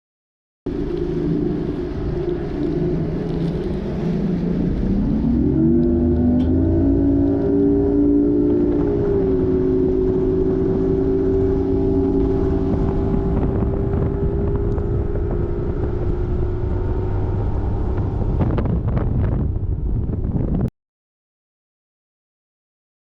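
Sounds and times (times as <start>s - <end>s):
outboard motor running: 0.7s - 20.5s
wind rushing over microphone: 0.7s - 20.7s.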